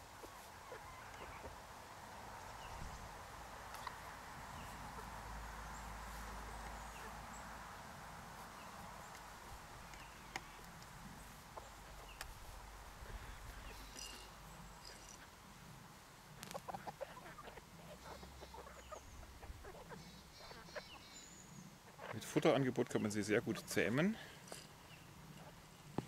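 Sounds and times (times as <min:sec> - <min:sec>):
chickens calling faintly: 0:00.0 - 0:26.0.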